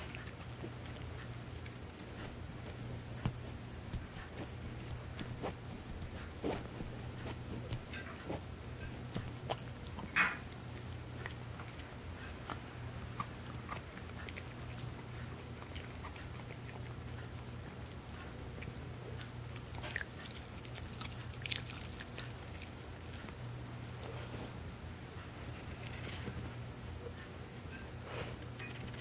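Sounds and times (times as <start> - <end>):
dog chewing on a bone: 0.0 - 24.3.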